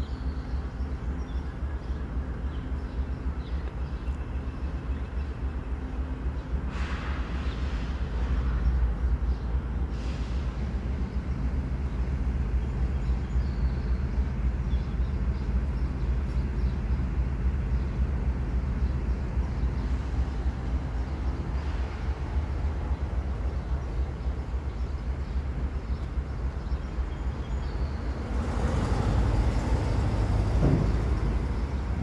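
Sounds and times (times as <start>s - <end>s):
diesel locomotive droning: 0.0s - 32.0s.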